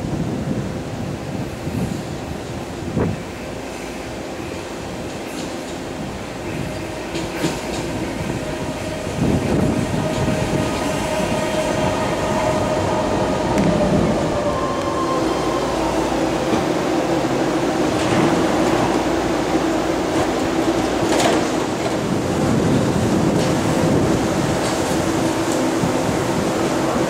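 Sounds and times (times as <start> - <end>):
train wheels rumbling on rails: 0.0 - 27.0
train whine: 0.0 - 27.0.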